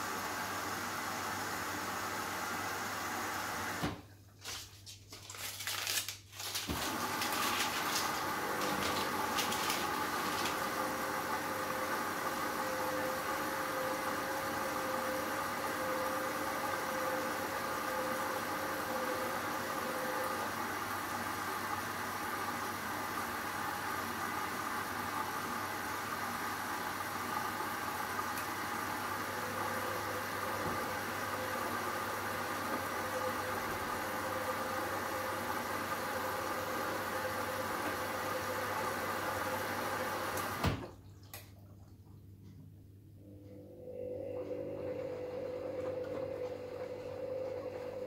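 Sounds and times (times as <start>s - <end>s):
washing machine running: 0.0s - 4.6s, 6.4s - 48.0s.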